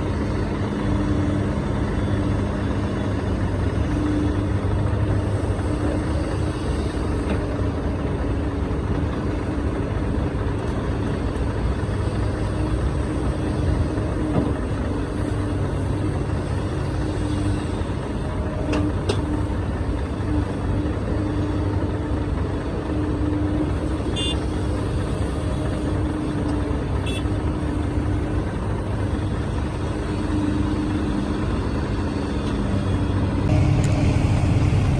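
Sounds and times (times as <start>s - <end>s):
truck engine humming: 0.0s - 34.9s.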